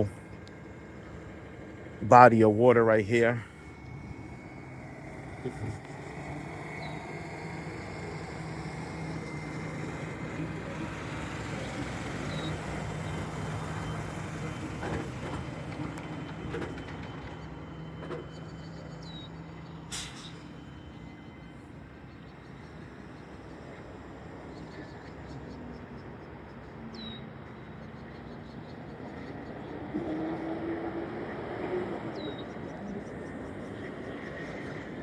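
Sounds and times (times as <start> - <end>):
road traffic: 0.0 - 35.0
vehicle passing with engine hum: 0.0 - 35.0.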